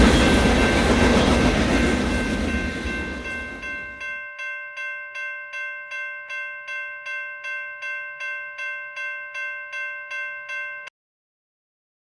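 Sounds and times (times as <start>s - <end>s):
crossing bell ringing: 0.0s - 10.9s.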